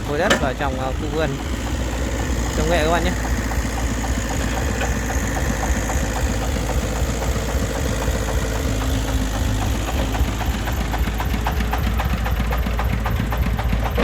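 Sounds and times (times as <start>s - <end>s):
diesel engine knocking: 0.0s - 14.0s.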